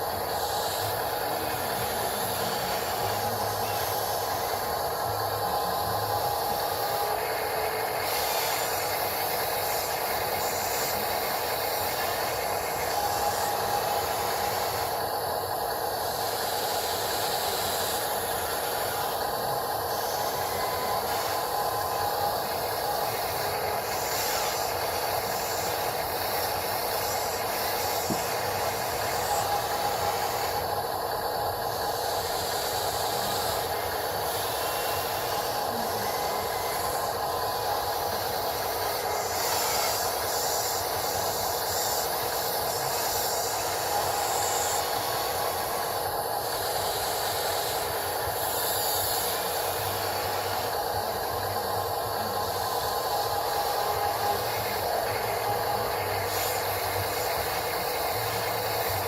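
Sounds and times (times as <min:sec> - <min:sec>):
hydraulic pump and motor whining: 0:00.0 - 0:59.0.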